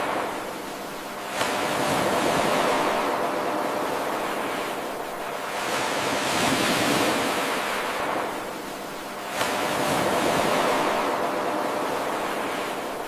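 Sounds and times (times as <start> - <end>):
ocean surf washing in: 0.0 - 13.0.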